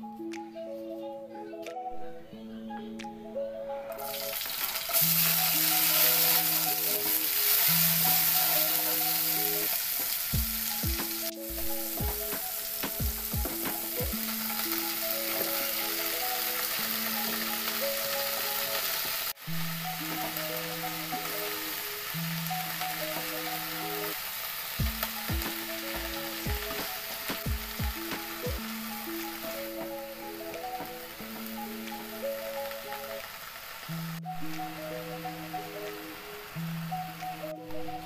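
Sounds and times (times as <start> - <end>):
background music with simple melody: 0.0 - 38.0
vegetables sizzling in hot oil: 4.0 - 37.2.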